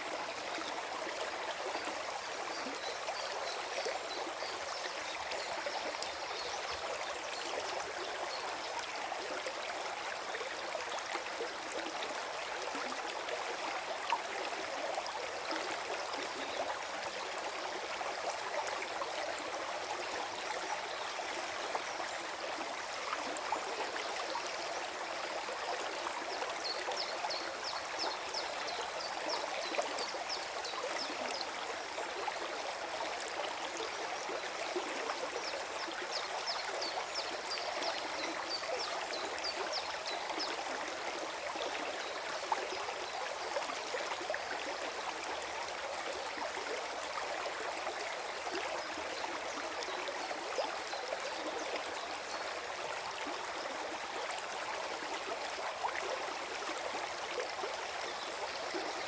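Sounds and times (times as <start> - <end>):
forest stream gurgling: 0.0 - 59.0.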